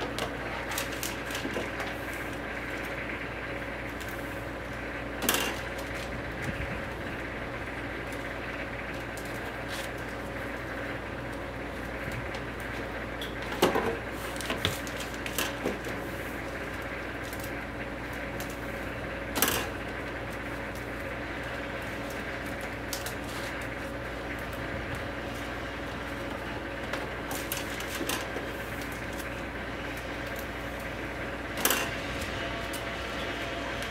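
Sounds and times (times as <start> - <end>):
machine and room hum: 0.0 - 33.9.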